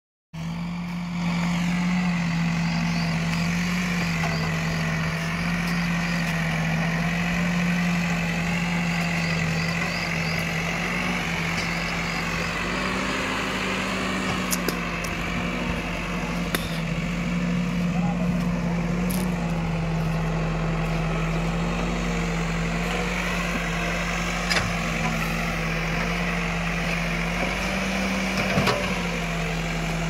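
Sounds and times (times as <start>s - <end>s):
diesel engine drone: 0.4s - 30.0s.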